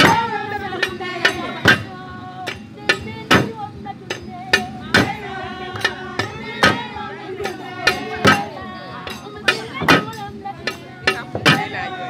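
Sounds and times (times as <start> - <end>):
sharp percussive strikes: 0.0 - 12.0
voices singing and calling: 0.0 - 12.0.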